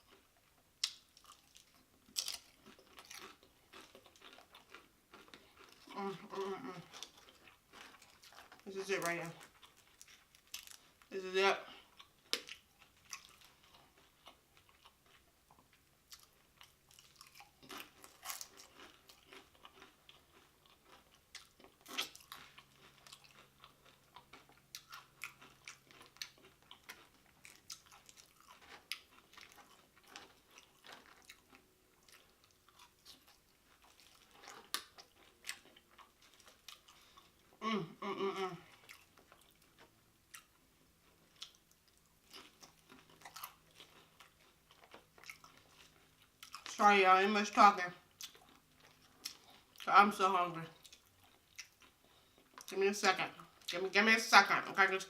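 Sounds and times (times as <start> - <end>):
chips crunching while chewed: 0.0 - 37.5, 38.6 - 46.8, 48.1 - 49.9, 50.8 - 52.7.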